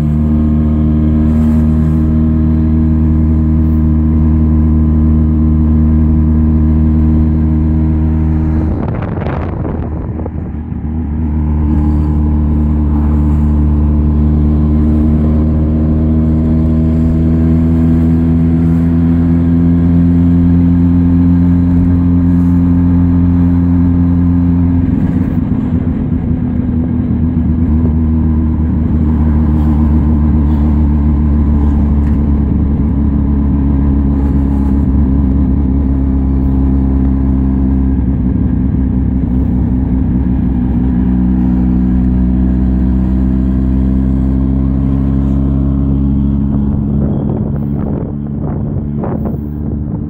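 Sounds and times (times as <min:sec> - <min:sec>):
small two-stroke car engine running: 0:00.0 - 0:50.0.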